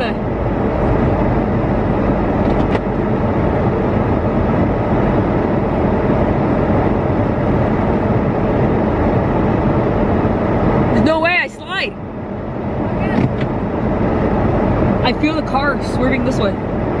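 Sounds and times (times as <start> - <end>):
car engine under steady throttle: 0.0 - 17.0.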